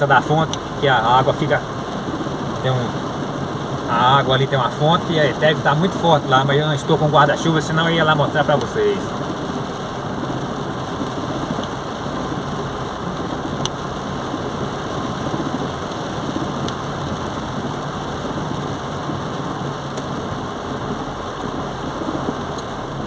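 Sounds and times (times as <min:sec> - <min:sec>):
car engine humming: 0:00.0 - 0:23.0
rain on car: 0:00.0 - 0:23.0
tyres hissing on wet road: 0:00.0 - 0:23.0.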